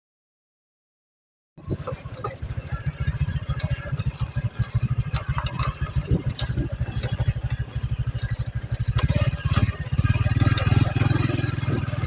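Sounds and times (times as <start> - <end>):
motorcycle engine running: 1.6 - 12.0.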